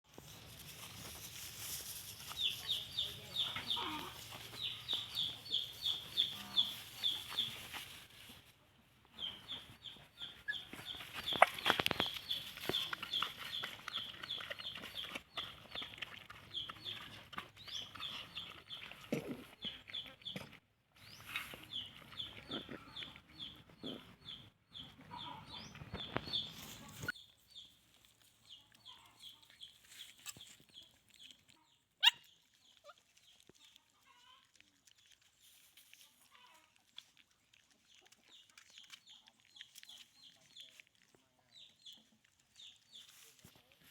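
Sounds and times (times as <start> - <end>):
baby chicks peeping: 2.3 - 8.1, 9.2 - 27.8, 28.4 - 35.1, 37.9 - 43.7.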